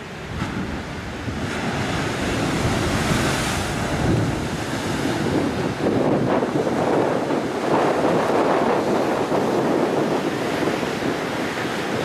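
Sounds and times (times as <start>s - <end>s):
ocean waves breaking on rocks: 0.0s - 12.0s
white water rushing: 0.0s - 12.0s
wind buffeting microphone: 0.0s - 12.0s.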